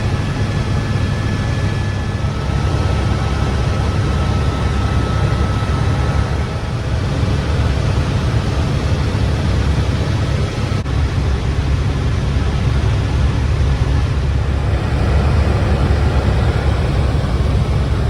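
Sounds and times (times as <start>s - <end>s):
helicopter engine and rotor rumble: 0.0s - 18.0s.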